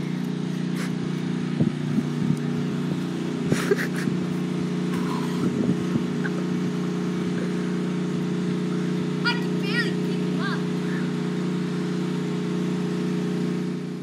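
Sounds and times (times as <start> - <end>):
steady motor hum: 0.0 - 14.0.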